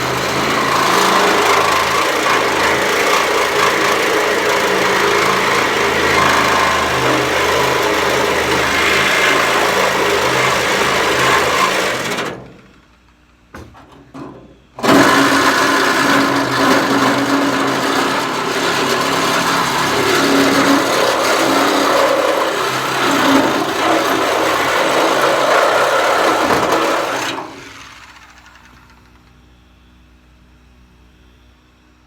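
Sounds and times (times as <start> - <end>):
power tool cutting steel: 0.0 - 12.7, 14.8 - 29.1
power tool whine: 0.0 - 12.9, 14.8 - 29.5.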